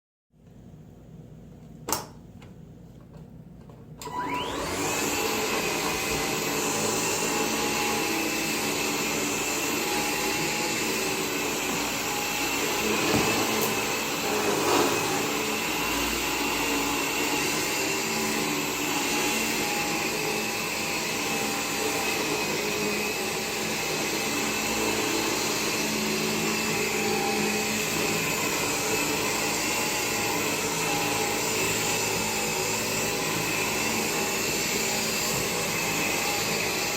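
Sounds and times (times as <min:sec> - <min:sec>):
cordless vacuum motor whine: 0:04.0 - 0:36.9.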